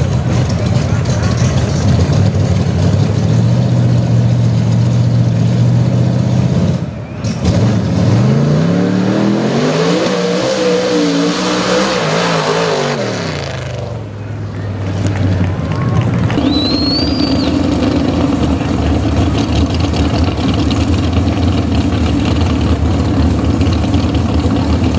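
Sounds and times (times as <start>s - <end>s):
truck engine idling and revving: 0.0s - 24.9s.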